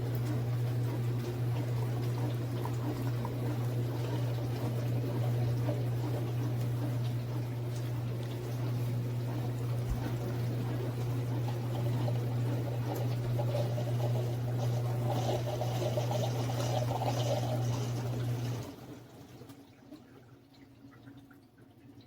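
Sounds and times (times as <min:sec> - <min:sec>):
coffee pouring into cup: 0:00.0 - 0:19.0
coffee maker pump hum: 0:00.0 - 0:22.0.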